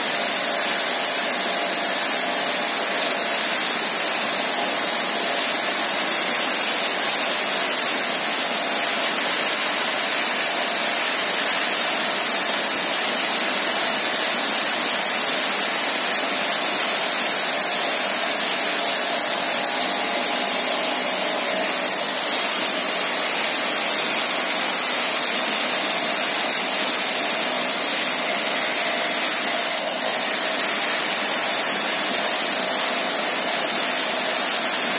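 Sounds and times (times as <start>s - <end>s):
core drill grinding brick: 0.0s - 34.9s.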